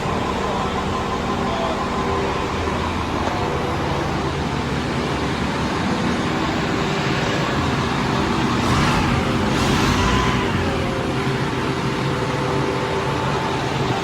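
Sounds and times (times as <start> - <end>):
street traffic noise: 0.0 - 14.0
truck engine running: 0.0 - 14.0.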